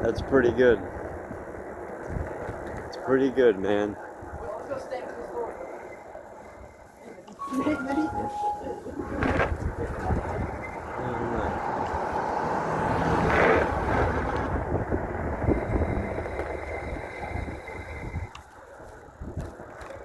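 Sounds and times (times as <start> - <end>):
wind buffeting microphone: 0.0 - 7.0, 7.9 - 20.0.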